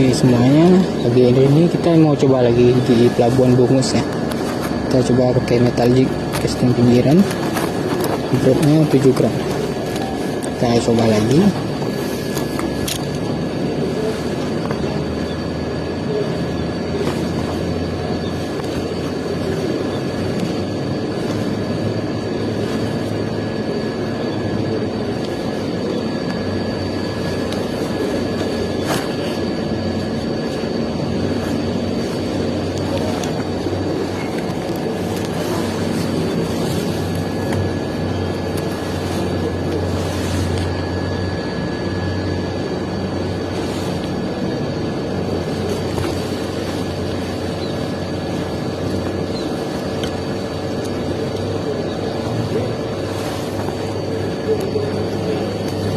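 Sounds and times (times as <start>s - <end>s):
engine drone: 0.0s - 55.9s
faint high whine: 0.0s - 55.9s.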